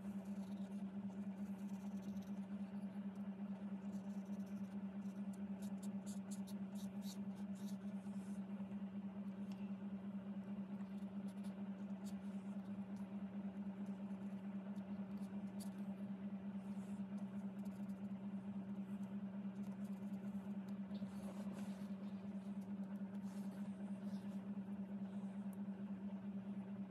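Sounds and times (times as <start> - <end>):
steady low hum: 0.0 - 26.9
pen scratching on card: 0.1 - 8.4, 10.6 - 13.1, 13.7 - 24.4.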